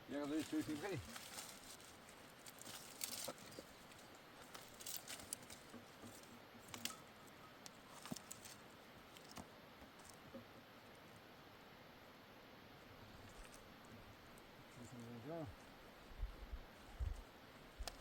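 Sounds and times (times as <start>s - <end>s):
faint clicks and rustles: 0.1s - 11.1s, 13.0s - 18.0s.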